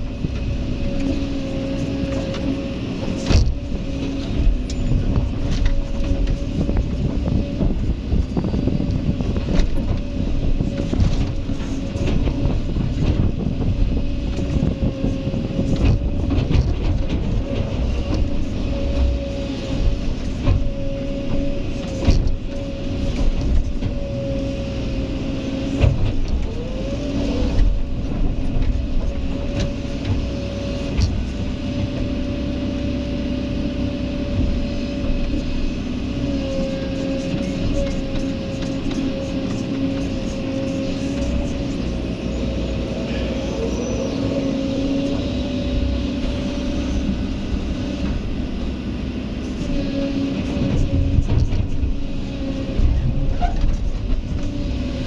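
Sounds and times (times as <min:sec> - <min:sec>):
excavator engine and hydraulics whining: 0:00.0 - 0:55.0.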